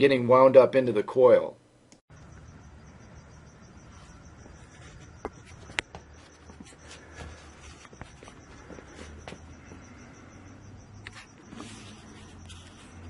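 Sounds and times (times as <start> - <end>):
crickets chirping: 2.1 - 13.0
low hum: 2.1 - 13.0.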